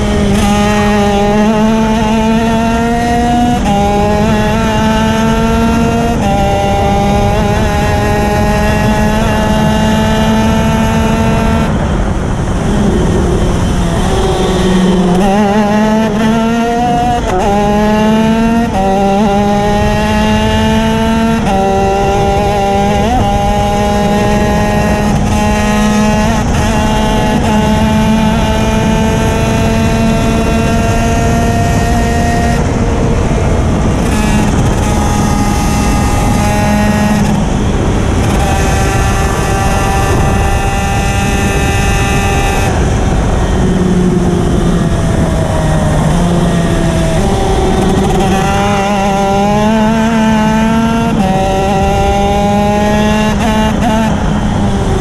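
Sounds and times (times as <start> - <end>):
kart engine revving high: 0.0 - 55.0.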